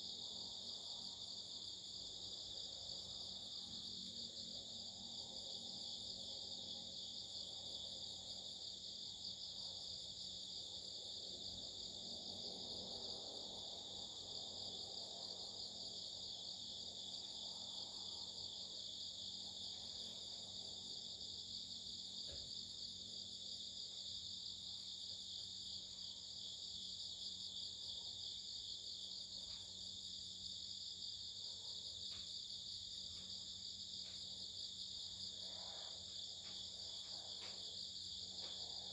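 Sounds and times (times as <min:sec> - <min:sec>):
insects trilling at night: 0:00.0 - 0:38.9.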